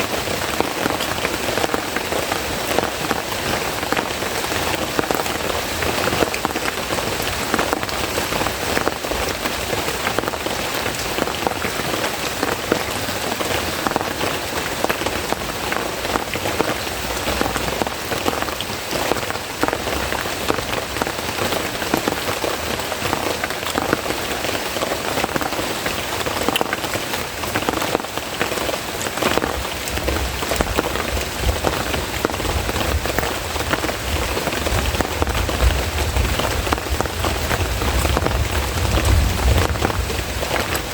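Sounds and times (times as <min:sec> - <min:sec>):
heavy rain falling: 0:00.0 - 0:40.9
raindrop hits: 0:00.0 - 0:40.9.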